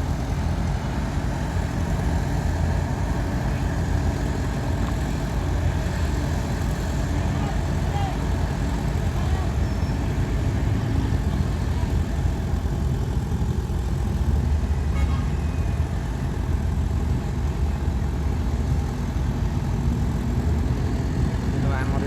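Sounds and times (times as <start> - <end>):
diesel engine rumble: 0.0 - 22.0.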